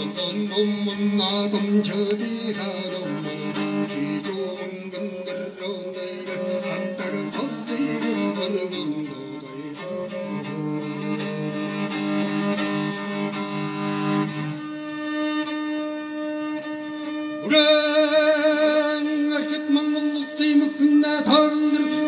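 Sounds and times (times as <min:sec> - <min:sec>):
bowed fiddle sustained notes: 0:00.0 - 0:22.0.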